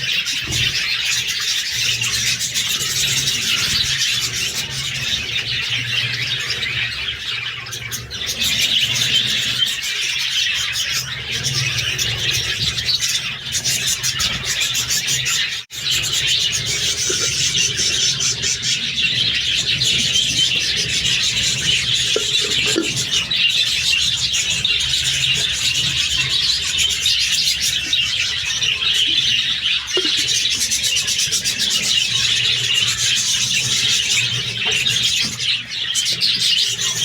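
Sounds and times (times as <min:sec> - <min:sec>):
budgerigars chattering and chirping: 0:00.0 - 0:37.0.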